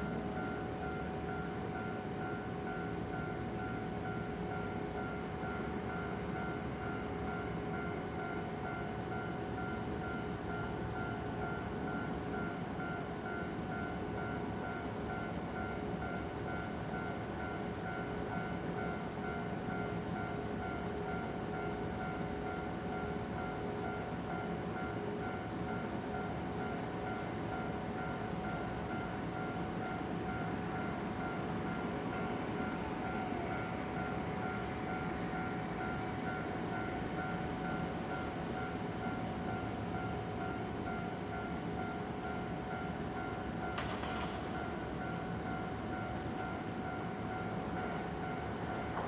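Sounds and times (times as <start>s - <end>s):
train rumble and rail noise: 0.0s - 49.0s.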